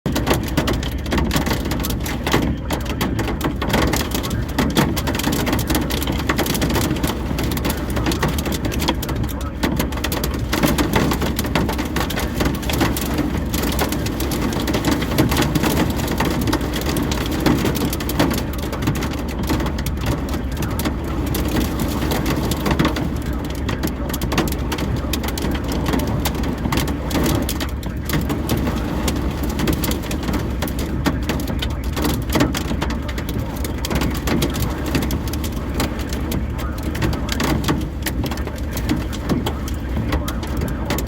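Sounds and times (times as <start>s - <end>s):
hail pelting: 0.1s - 41.0s
heavy rain roaring: 0.1s - 41.0s.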